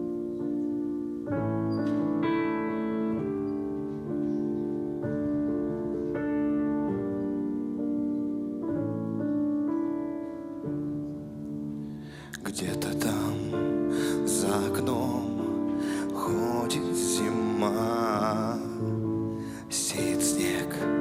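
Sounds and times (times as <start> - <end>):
piano playing slow chords: 0.0 - 21.0.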